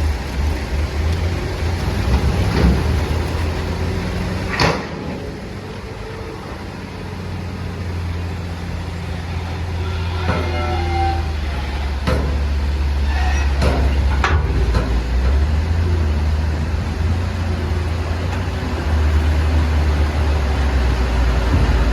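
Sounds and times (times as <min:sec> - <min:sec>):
truck engine rumbling: 0:00.0 - 0:21.9.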